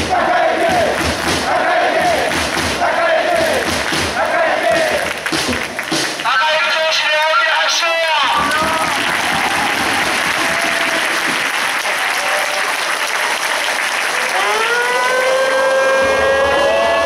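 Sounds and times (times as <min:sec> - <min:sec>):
crowd clapping and cheering: 0:00.0 - 0:17.0.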